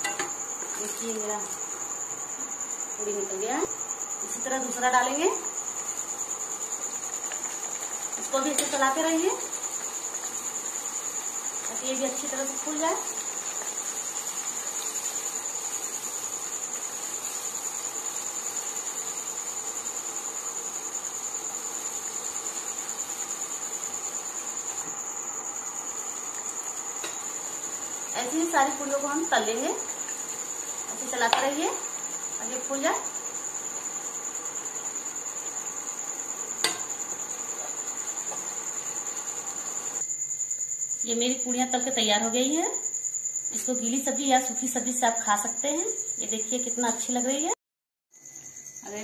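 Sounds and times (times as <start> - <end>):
oil sizzling and bubbling: 0.0 - 44.7.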